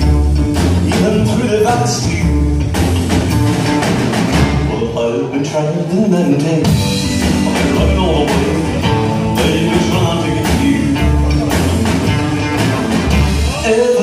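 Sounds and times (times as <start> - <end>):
pulsing bass line: 0.0 - 4.9, 6.6 - 14.0
drums: 0.0 - 14.0
electric guitar: 0.0 - 14.0.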